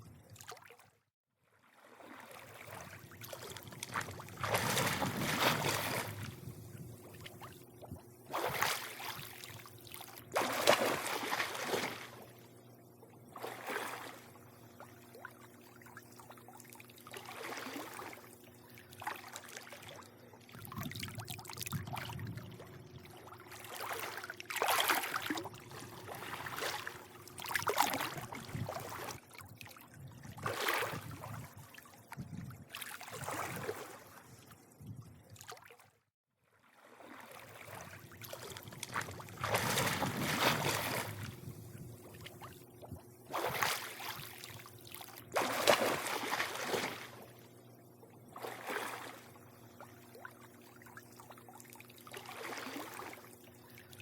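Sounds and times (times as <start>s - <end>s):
pool water lapping and sloshing: 0.0s - 54.0s
steady low hum: 2.5s - 35.4s, 37.4s - 54.0s.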